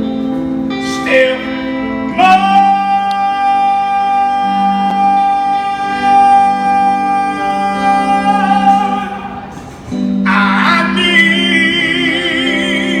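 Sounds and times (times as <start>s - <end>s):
man singing a long high note: 0.8s - 13.0s.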